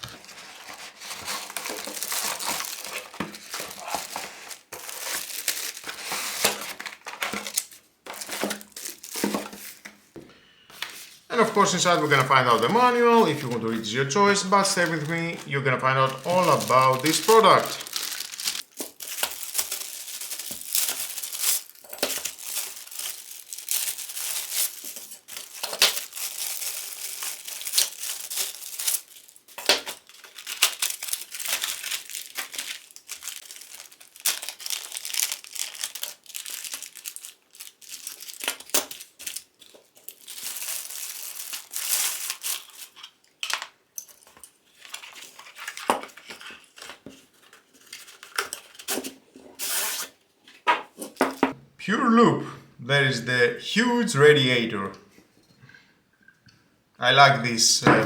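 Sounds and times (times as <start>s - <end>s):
packaging crinkling and rustling: 0.0s - 10.0s, 10.7s - 51.5s.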